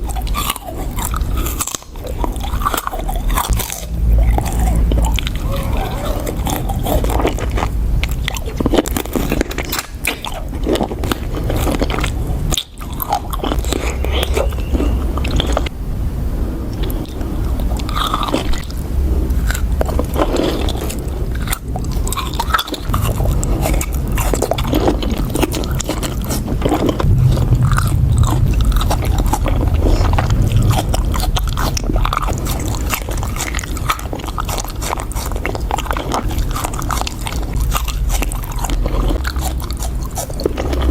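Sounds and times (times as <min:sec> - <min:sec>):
biting and chewing fruit: 0:00.0 - 0:15.7, 0:16.8 - 0:40.9.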